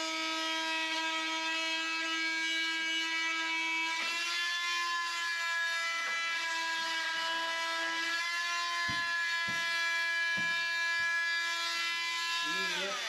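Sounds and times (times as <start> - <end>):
power tool motor whine: 0.0 - 13.0.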